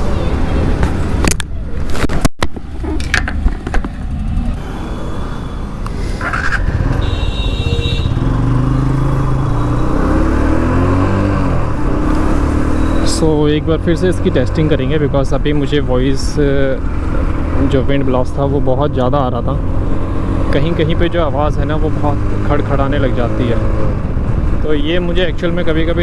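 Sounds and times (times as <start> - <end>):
motorcycle engine: 2.7 - 24.7.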